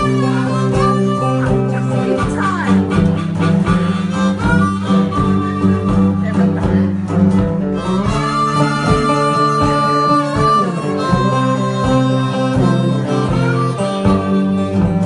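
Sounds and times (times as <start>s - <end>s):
harmonica playing lead: 0.0s - 15.0s
plucked guitars rhythm: 0.0s - 15.0s.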